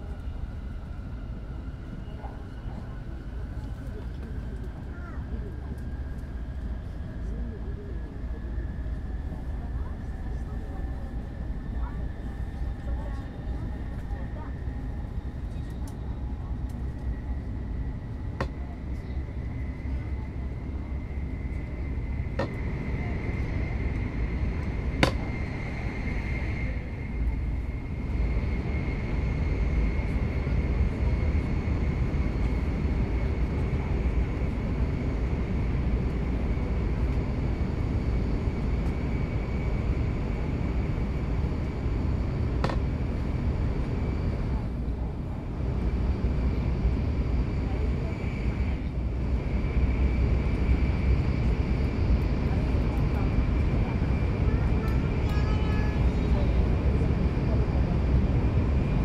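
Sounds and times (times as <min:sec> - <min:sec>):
train interior rumble and whine: 0:00.0 - 0:59.0.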